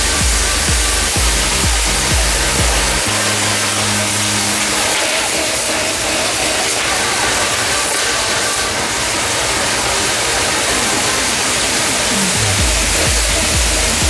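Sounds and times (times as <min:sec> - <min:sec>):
ground fireworks hissing: 0:00.0 - 0:14.0.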